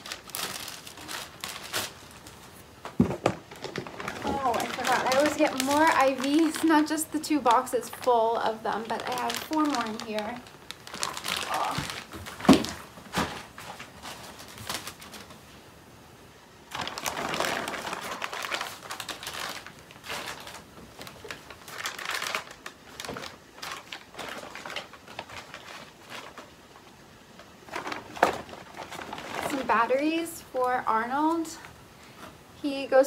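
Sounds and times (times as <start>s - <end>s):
plastic packets crinkling: 0.0s - 15.4s, 16.7s - 30.7s.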